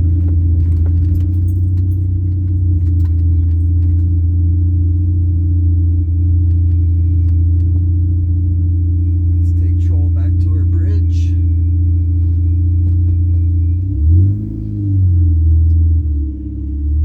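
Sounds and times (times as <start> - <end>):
car engine drone: 0.0 - 17.0
faint high supercharger whine: 0.0 - 17.0.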